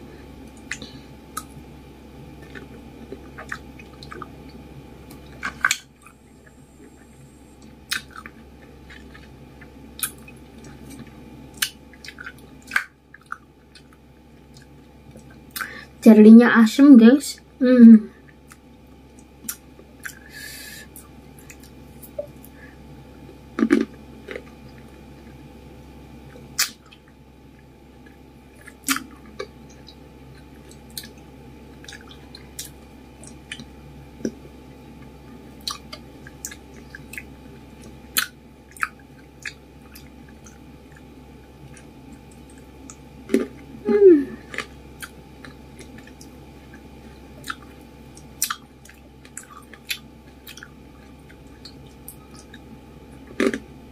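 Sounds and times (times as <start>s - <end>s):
chewing grapes: 2.4s - 15.8s, 18.2s - 20.3s, 23.2s - 25.4s, 26.3s - 53.7s.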